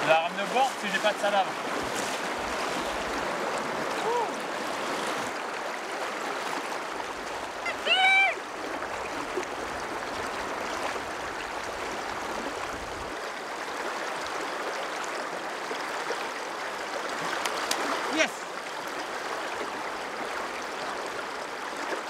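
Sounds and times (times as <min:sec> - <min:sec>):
river rapids rushing: 0:00.0 - 0:13.8, 0:16.8 - 0:22.0.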